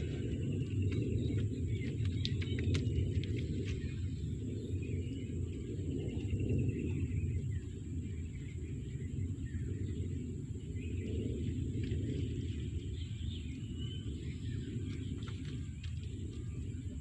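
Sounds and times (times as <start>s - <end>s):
birds chirping and whistling: 0.0s - 17.0s
steady low rumble: 0.0s - 17.0s.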